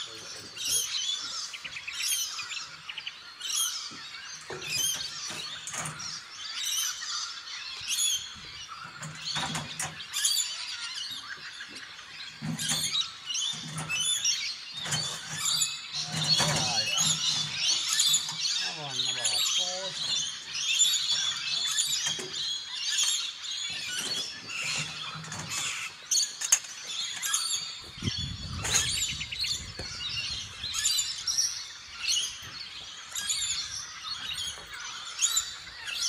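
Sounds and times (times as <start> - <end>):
birds calling and chirping: 0.0 - 36.0.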